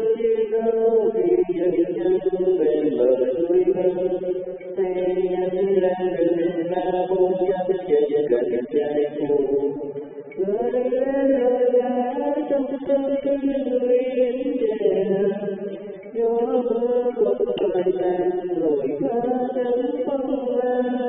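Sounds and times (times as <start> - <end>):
person singing slow song: 0.0 - 21.0.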